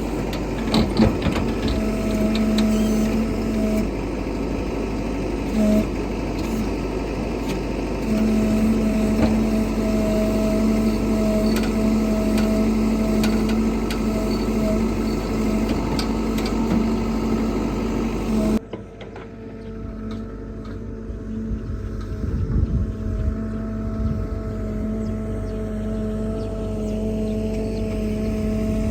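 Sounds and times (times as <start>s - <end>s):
backhoe engine running under load: 0.0s - 28.9s.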